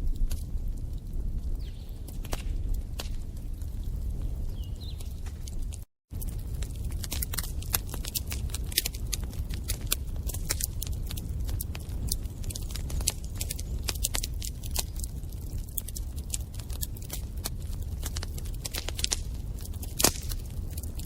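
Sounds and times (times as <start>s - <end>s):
bonfire crackling: 0.0s - 21.0s
burning wood popping: 0.0s - 21.0s.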